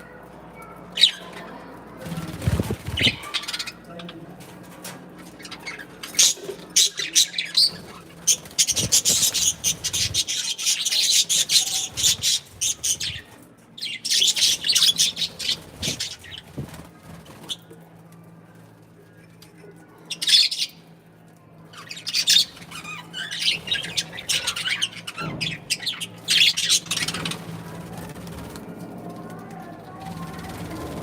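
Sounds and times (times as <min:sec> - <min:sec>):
birds chirping and chattering: 0:00.0 - 0:31.0.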